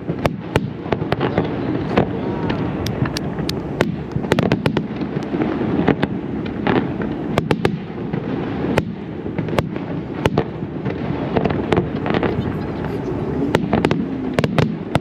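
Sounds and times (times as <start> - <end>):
rumble of firework bursts: 0.0 - 15.0
sharp firework cracks: 0.0 - 15.0.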